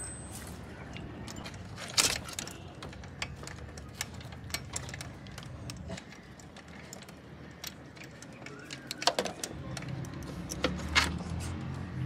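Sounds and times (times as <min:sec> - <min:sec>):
metallic clicks and clacks: 0:00.0 - 0:11.7.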